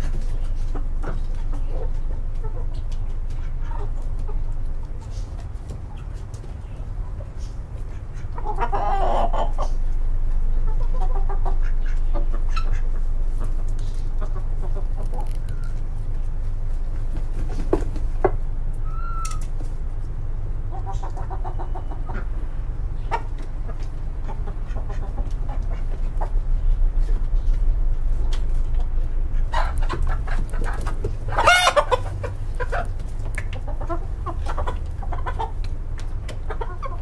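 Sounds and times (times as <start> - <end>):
steady low rumble: 0.0 - 17.4, 19.5 - 37.0
chickens clucking: 0.0 - 37.0.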